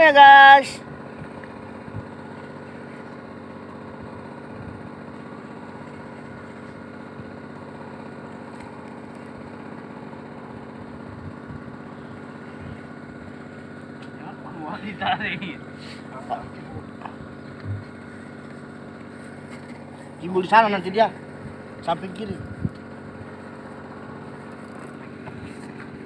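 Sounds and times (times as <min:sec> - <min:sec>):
small engine idling: 0:00.0 - 0:26.0.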